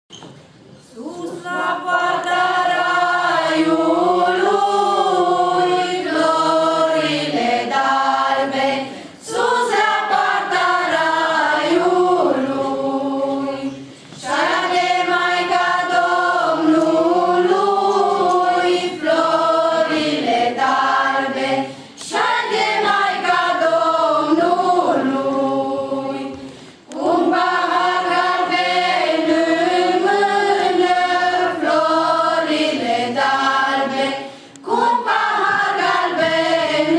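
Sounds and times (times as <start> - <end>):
women and girls singing unaccompanied: 0.8 - 36.9.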